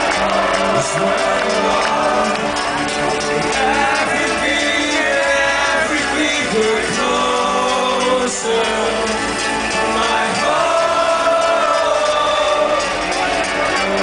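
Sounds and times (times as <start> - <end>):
person singing: 0.6 - 14.0.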